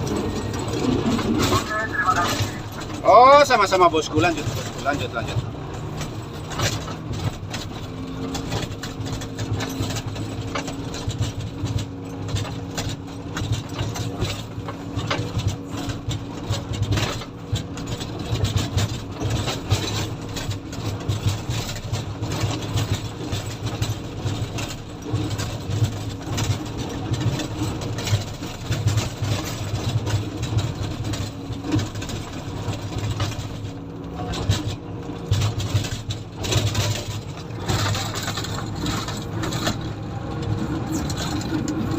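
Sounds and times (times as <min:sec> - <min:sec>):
rattles and knocks: 0:00.0 - 0:01.6, 0:02.2 - 0:41.9
diesel engine drone: 0:00.0 - 0:41.9.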